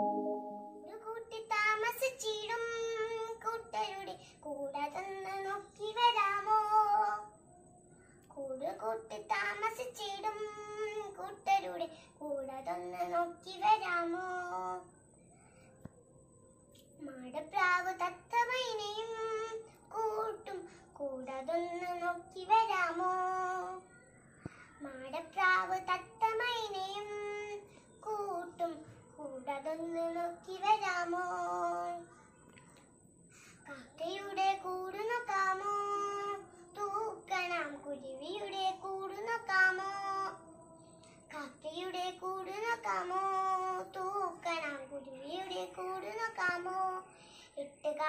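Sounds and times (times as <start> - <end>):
girl singing unaccompanied: 0.0 - 7.5, 8.2 - 15.0, 16.8 - 32.4, 33.4 - 48.0.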